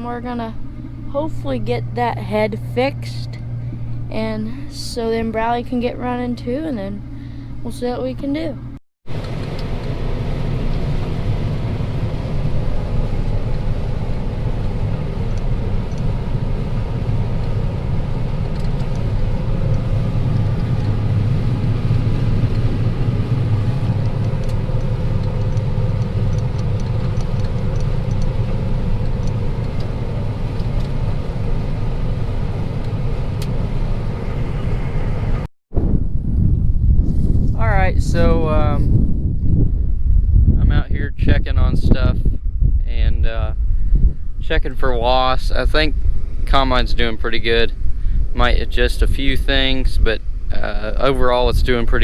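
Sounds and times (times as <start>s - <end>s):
combine harvester engine rumbling: 0.0s - 52.0s.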